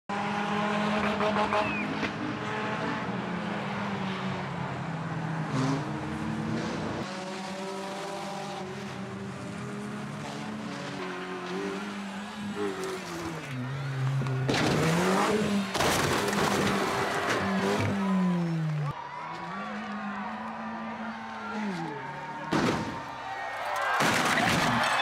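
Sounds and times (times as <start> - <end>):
race car engines revving: 0.1 - 25.0.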